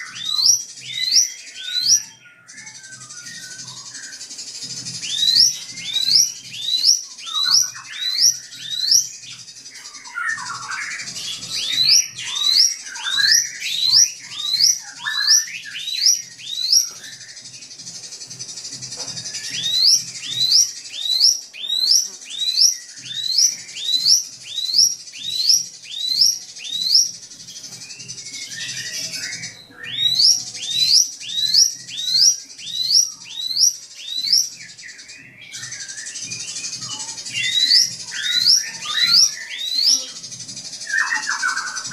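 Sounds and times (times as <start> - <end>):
bird singing sharp whistles: 0.0 - 41.9.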